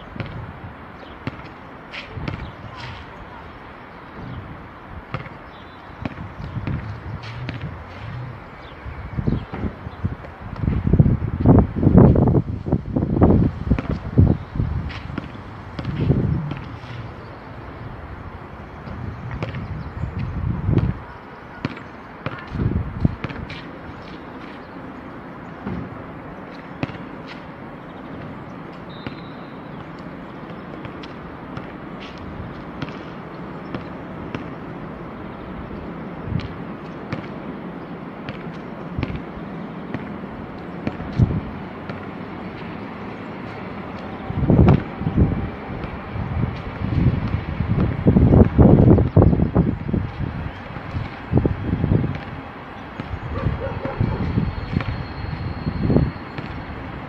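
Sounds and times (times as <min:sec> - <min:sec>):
wind buffeting microphone: 0:00.0 - 0:29.0, 0:29.8 - 0:57.0.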